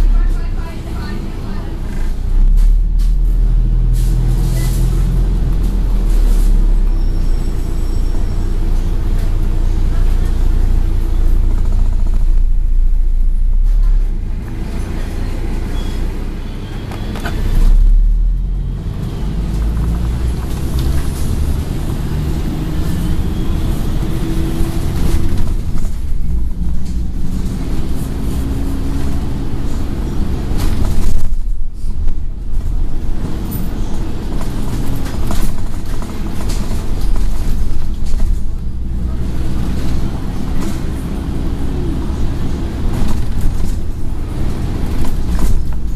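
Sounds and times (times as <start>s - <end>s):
bus engine rumbling: 0.0s - 45.9s.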